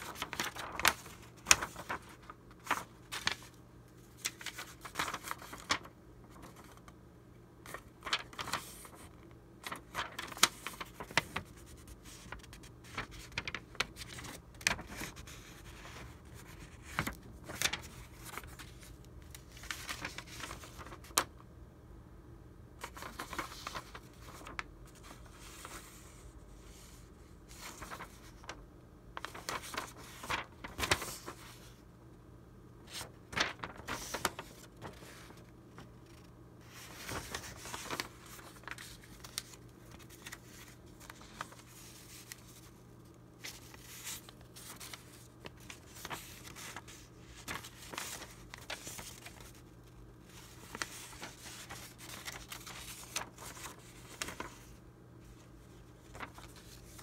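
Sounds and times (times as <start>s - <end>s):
paper rustling and crackling: 0.0s - 7.0s, 7.6s - 21.4s, 22.8s - 28.6s, 29.2s - 31.8s, 32.8s - 57.0s.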